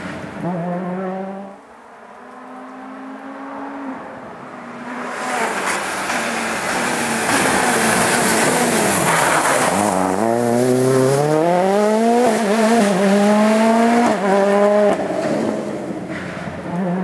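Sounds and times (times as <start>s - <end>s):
rally car engine: 0.0s - 17.0s.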